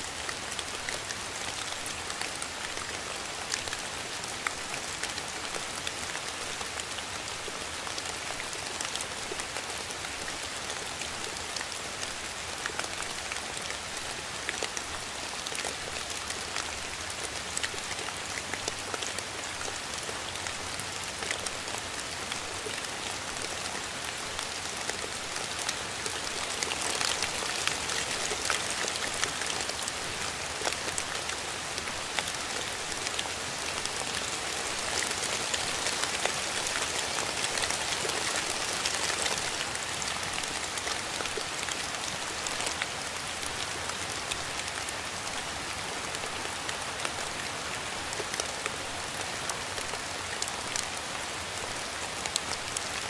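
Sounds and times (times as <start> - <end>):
rain drops pattering: 0.0 - 53.0.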